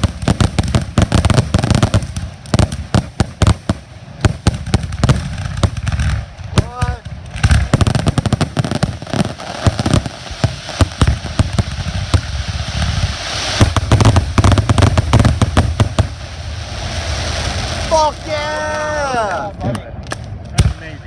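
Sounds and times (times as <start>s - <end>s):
deep firework thumps: 0.0s - 17.9s
fireworks bangs and crackles: 0.0s - 21.0s.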